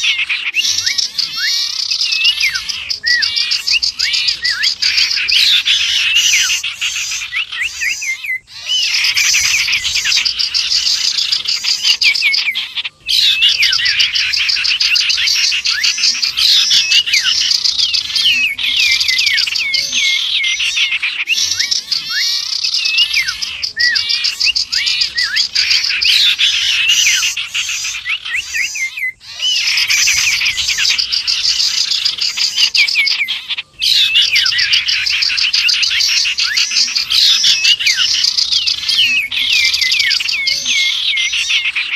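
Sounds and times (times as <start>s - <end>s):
bird calls: 0.0s - 41.9s
small birds chirping and whistling: 0.0s - 41.9s.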